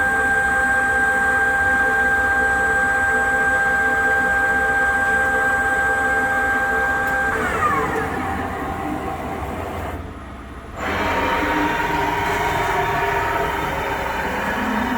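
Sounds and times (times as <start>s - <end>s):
lathe spindle whine: 0.1s - 14.9s.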